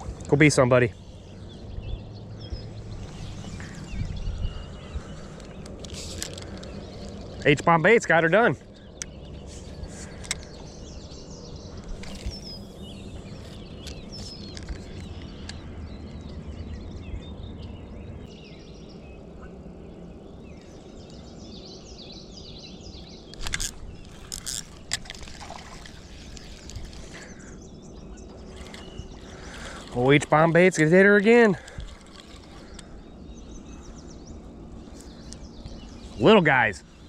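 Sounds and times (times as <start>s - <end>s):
low rumble of wind: 0.0s - 37.0s
small birds chirping: 0.0s - 37.0s.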